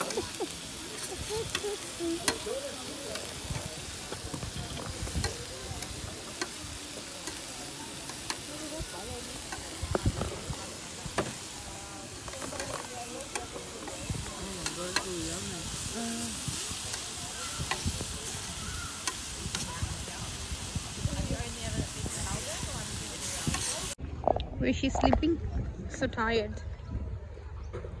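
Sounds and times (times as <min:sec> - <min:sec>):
food sizzling on a hotplate: 0:00.0 - 0:24.0.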